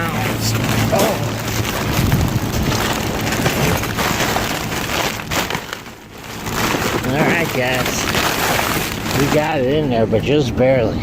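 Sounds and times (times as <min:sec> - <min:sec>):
plastic bag rustling: 0:00.0 - 0:10.1.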